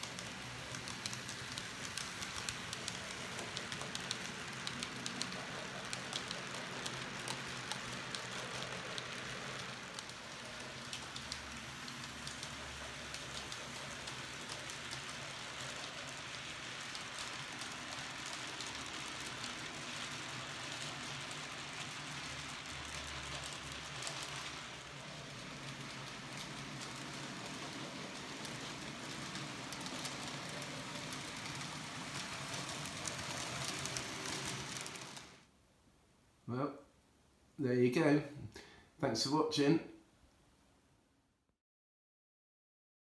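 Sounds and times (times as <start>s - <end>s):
model train wheels clicking: 0.0s - 35.5s.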